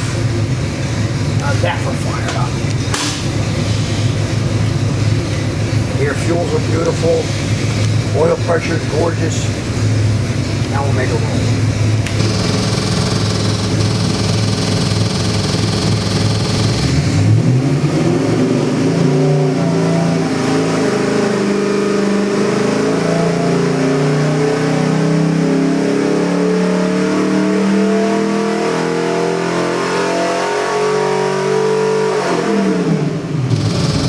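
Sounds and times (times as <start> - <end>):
car engine revving on dyno: 0.0 - 34.0.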